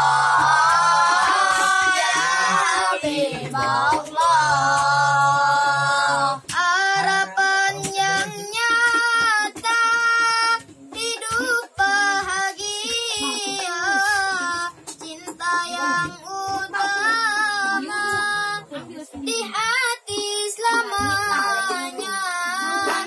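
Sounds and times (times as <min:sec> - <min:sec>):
boys singing devotional song: 0:00.0 - 0:23.0.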